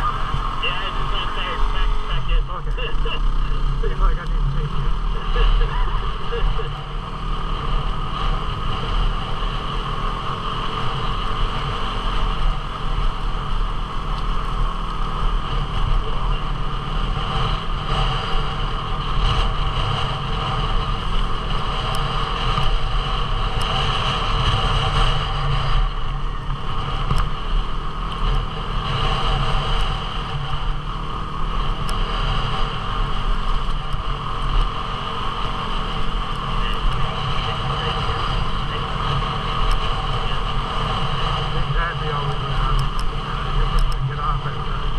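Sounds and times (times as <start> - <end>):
motorcycle engine running: 0.0 - 44.9
wind rumble on microphone: 0.0 - 44.9.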